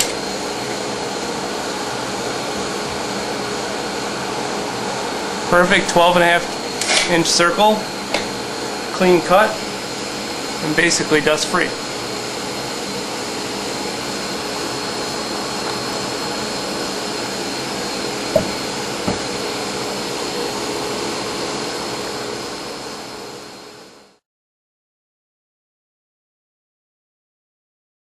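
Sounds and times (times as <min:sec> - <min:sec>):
router and vacuum whining hum: 0:00.0 - 0:24.2.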